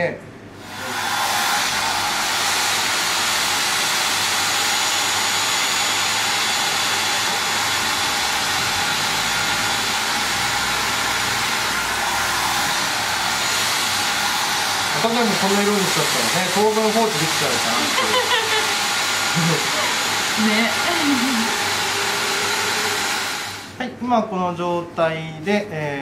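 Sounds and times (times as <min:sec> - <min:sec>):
hair dryer blowing: 0:00.6 - 0:23.8.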